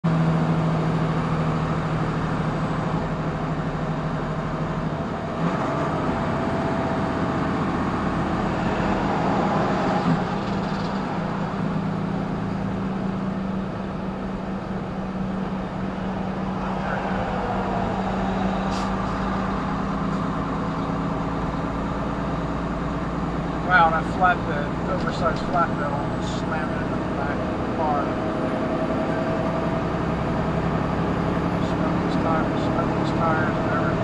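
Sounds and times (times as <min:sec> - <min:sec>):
diesel engine hum: 0:00.0 - 0:34.0
road and tyre noise: 0:00.0 - 0:34.0.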